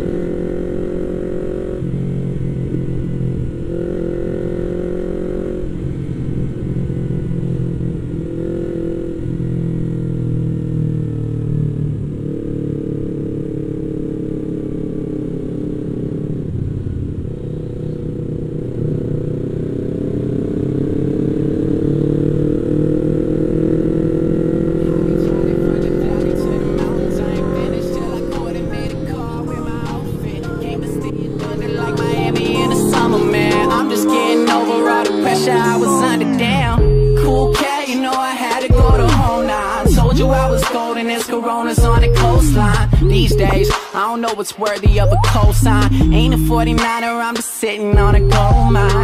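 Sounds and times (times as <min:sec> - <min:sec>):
motorcycle engine accelerating: 0:00.0 - 0:43.8, 0:44.8 - 0:47.0, 0:48.0 - 0:49.0.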